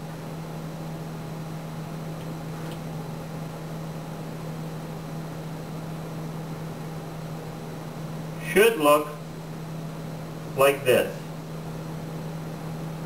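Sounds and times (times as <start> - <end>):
room tone hum and hiss: 0.0 - 13.0.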